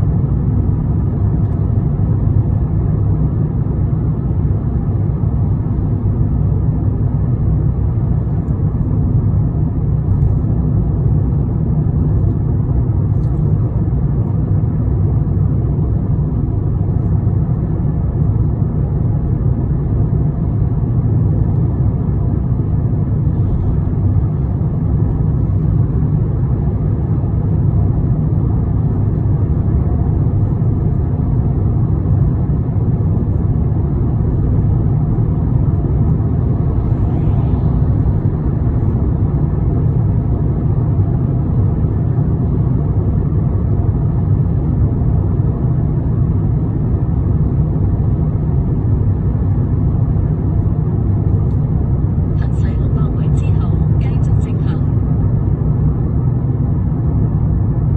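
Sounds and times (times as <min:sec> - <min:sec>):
vehicle rumble from inside: 0:00.0 - 0:57.9.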